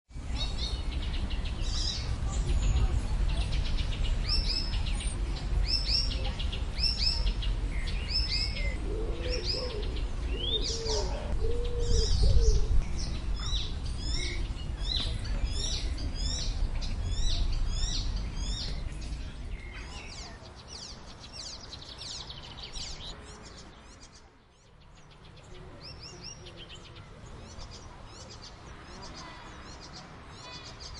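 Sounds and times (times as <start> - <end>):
warbler singing: 0.1 - 30.9.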